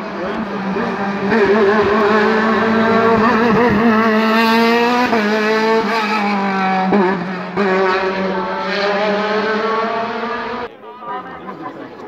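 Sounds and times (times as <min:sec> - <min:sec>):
race car engine shifting gears: 0:00.2 - 0:10.7.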